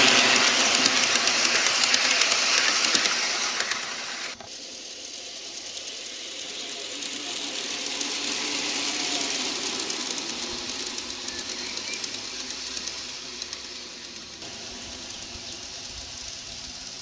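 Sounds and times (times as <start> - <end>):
model train wheels clicking: 0.0 - 17.0.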